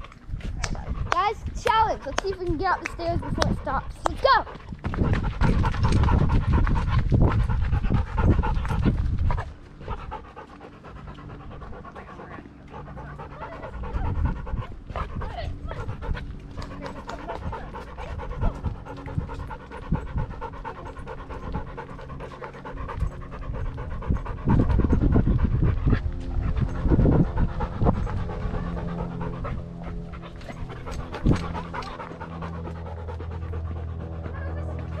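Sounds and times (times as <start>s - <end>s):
dog panting: 0.0s - 35.0s.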